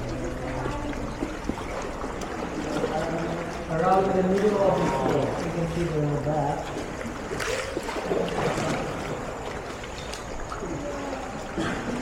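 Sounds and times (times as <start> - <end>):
paddle splashes: 0.0 - 12.0
water splashing and lapping: 0.0 - 12.0.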